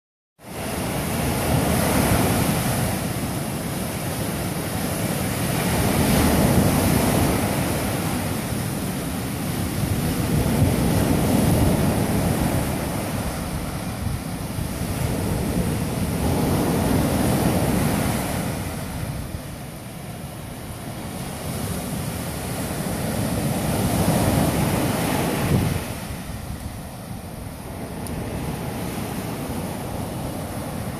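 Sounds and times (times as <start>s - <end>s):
surf breaking on beach: 0.4s - 30.9s.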